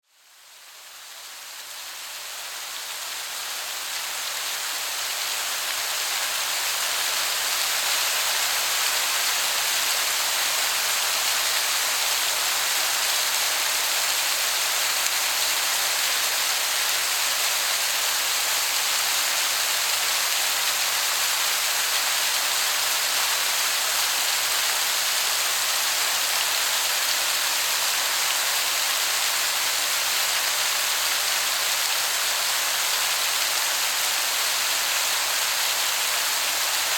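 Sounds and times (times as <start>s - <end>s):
distant waterfall hissing: 0.1s - 36.9s.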